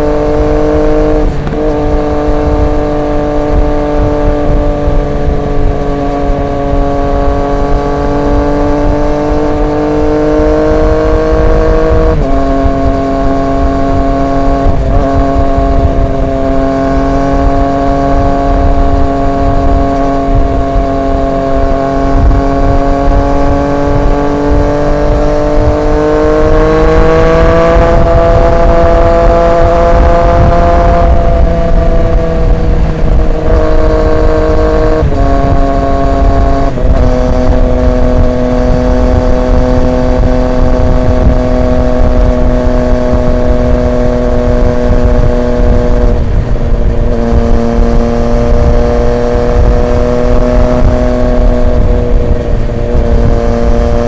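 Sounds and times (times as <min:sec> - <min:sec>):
motorcycle engine: 0:00.0 - 0:54.0
road and wind noise: 0:00.0 - 0:54.0.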